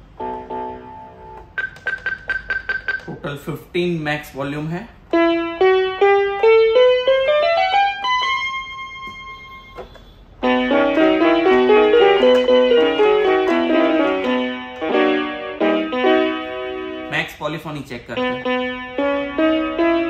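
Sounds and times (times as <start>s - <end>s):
toy electronic keyboard notes: 0.0s - 3.5s, 5.1s - 17.1s, 18.1s - 20.0s.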